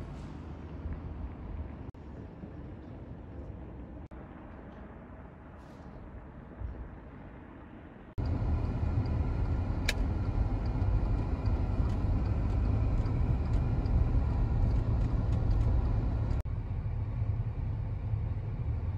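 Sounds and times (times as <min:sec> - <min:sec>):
low street rumble: 0:00.0 - 0:18.9.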